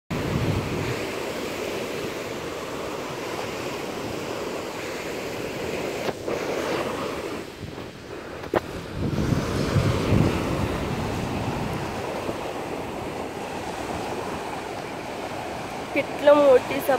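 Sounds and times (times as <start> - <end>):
ocean waves breaking on shore: 0.1 - 16.9
wind buffeting microphone: 0.1 - 16.9.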